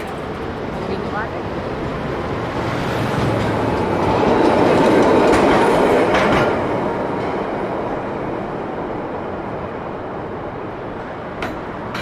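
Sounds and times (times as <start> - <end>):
train wheels clattering over rails: 0.0 - 12.0.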